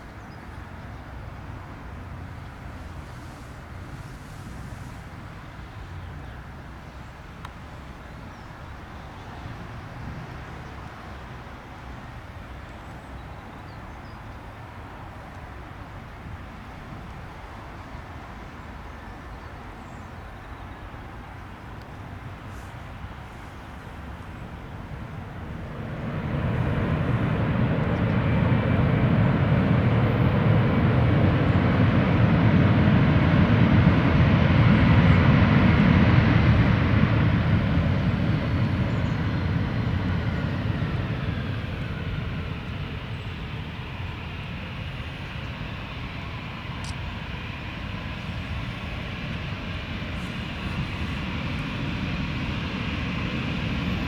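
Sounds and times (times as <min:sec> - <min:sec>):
jet airliner engines: 0:00.0 - 0:54.0.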